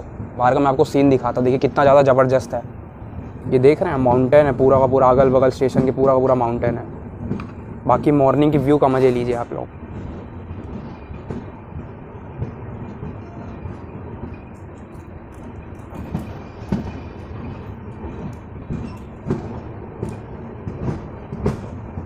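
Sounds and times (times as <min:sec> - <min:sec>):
train coach rumble and rattle: 0:00.0 - 0:22.0
wheels and couplings clacking: 0:03.5 - 0:22.0.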